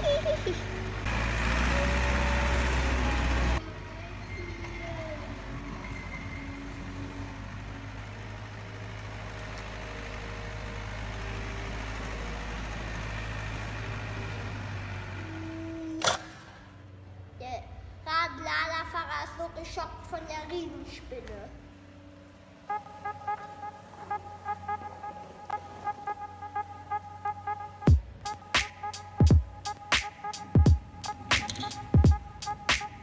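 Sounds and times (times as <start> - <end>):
heavy vehicle engine running: 0.0 - 18.0, 19.6 - 33.0.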